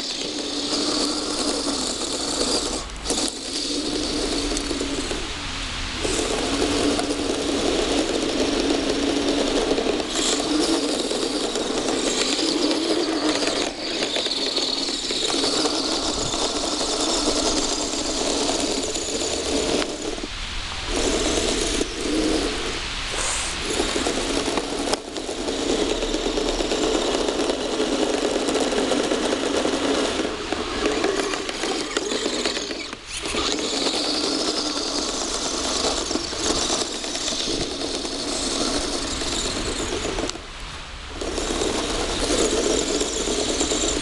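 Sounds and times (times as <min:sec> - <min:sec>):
toy vehicle motor whirring: 0:00.0 - 0:05.4, 0:06.0 - 0:20.3, 0:20.9 - 0:40.4, 0:41.1 - 0:44.0
tracks clattering: 0:00.0 - 0:05.4, 0:06.0 - 0:20.3, 0:20.9 - 0:40.5, 0:41.1 - 0:44.0.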